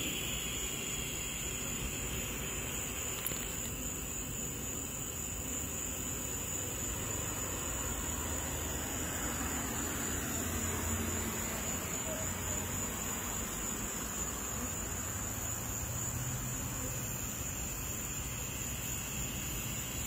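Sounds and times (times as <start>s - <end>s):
honey bee swarm buzzing: 0.0s - 20.0s.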